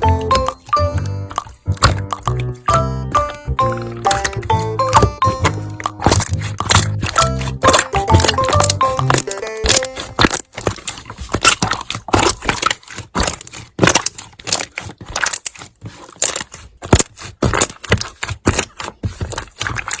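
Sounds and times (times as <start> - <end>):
slime popping and crackling: 0.0 - 20.0.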